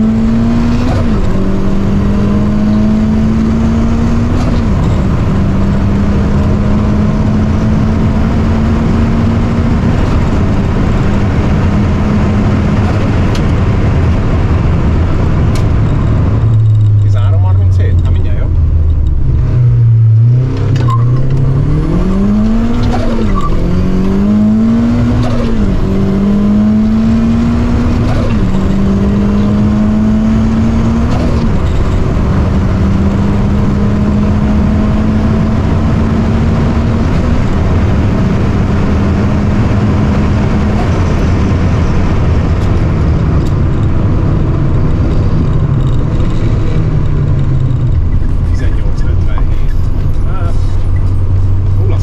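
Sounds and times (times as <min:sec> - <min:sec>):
car engine accelerating: 0:00.0 - 0:52.0
road and wind noise: 0:00.0 - 0:52.0.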